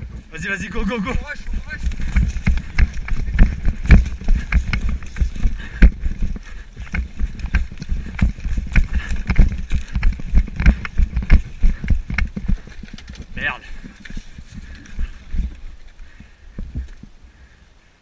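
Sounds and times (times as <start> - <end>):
running footsteps on leaves: 0.0 - 18.0.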